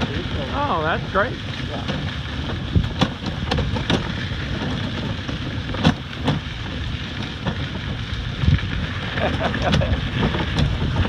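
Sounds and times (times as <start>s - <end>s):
cart rolling over gravel: 0.0s - 11.0s
rig knocks and rattles: 0.0s - 11.0s
wind on microphone: 1.4s - 11.0s.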